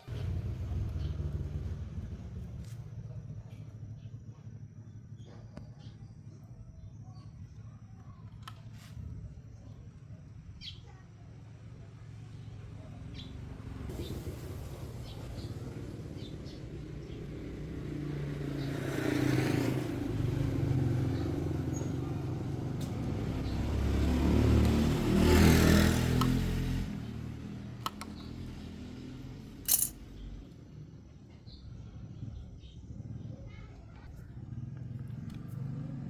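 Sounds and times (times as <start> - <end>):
engine rumbling: 0.0 - 36.0.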